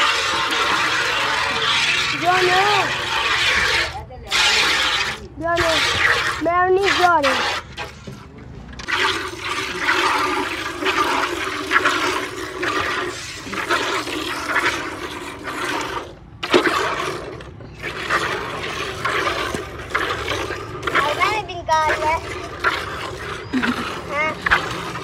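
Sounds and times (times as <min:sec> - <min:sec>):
milk squirting into steel pail: 0:00.0 - 0:25.0.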